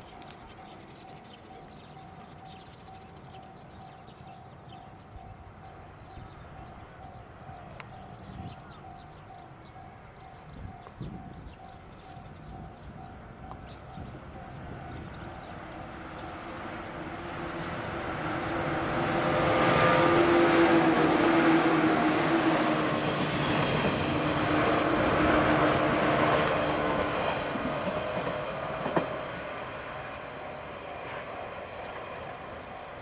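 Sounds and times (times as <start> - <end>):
birds chirping: 0.0 - 33.0
train wheel and motor rumble: 5.1 - 33.0.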